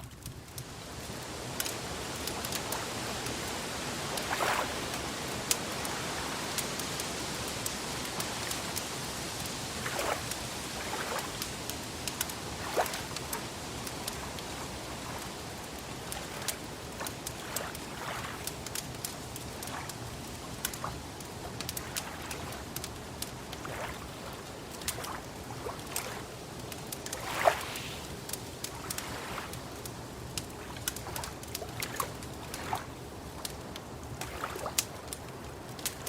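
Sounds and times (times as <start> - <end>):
crackling wood fire: 0.0 - 36.0
rushing water: 0.0 - 36.0
soft water splashes: 0.0 - 36.0.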